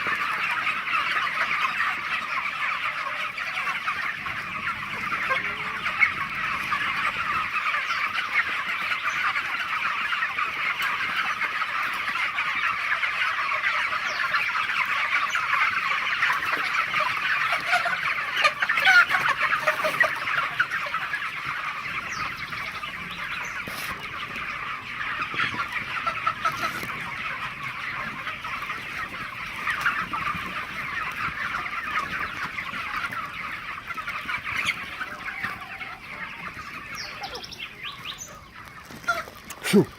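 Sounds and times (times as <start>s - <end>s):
chickens clucking and peeping: 0.0s - 39.9s.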